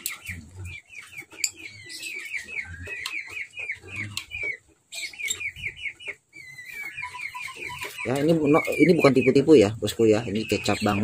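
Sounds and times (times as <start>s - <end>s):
lovebird chattering chirps: 0.0s - 11.0s.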